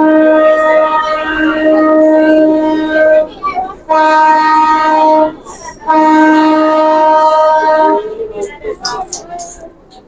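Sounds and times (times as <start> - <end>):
train horn blasts: 0.0 - 8.5.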